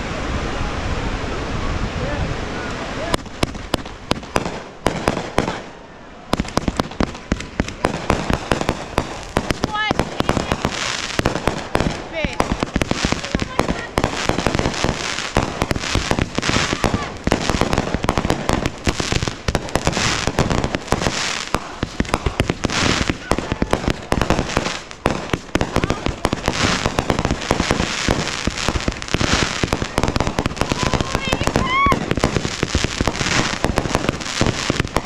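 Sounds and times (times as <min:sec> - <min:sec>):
fireworks bangs and pops: 0:03.0 - 0:35.0.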